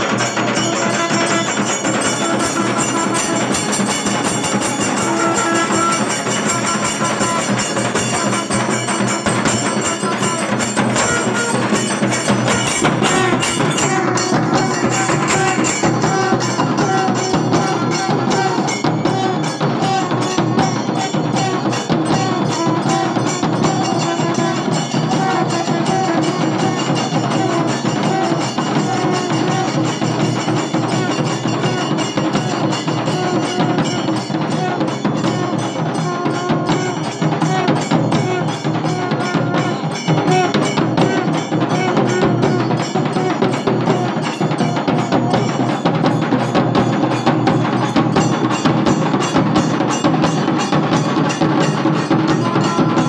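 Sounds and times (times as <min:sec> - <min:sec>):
brass horns blowing held notes: 0:00.0 - 0:44.7
fast stick-played drumming: 0:00.0 - 0:53.0
hand cymbals: 0:00.0 - 0:53.0.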